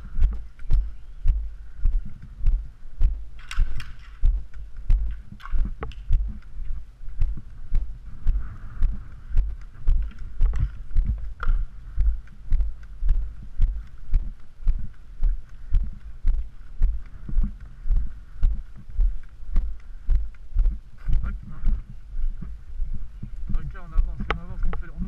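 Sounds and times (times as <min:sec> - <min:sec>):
footsteps thumping on camera: 0:00.0 - 0:03.3, 0:04.2 - 0:24.8.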